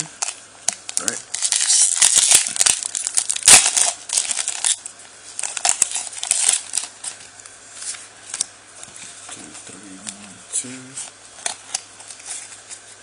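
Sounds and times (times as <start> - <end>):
foil wrapper crinkling: 0.2 - 8.5, 10.9 - 13.0.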